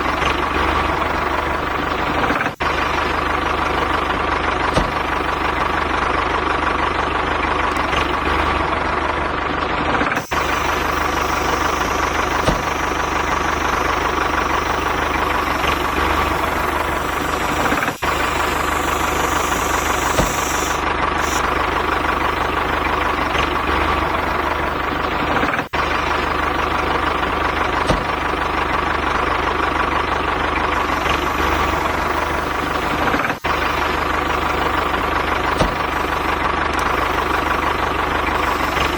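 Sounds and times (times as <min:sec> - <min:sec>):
mini tractor engine running: 0:00.0 - 0:38.9.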